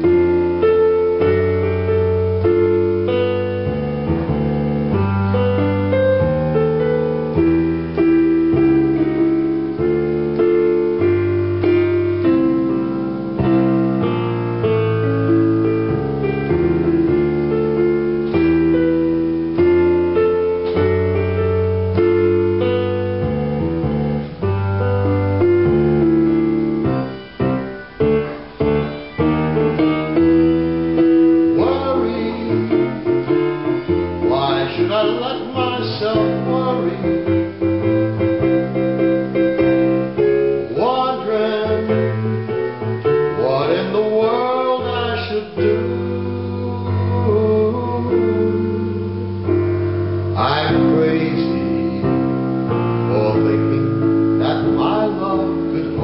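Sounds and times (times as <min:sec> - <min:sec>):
digital piano playing chords: 0:00.0 - 0:56.0.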